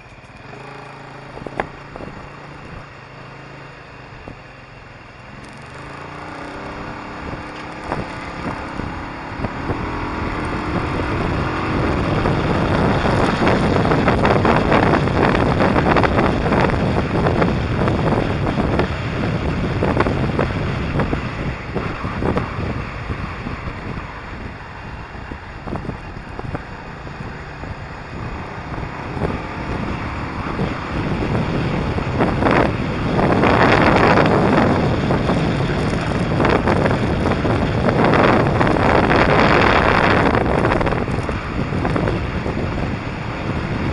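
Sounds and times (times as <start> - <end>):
motorcycle engine accelerating: 0.0 - 43.9
wind buffeting microphone: 0.0 - 43.9.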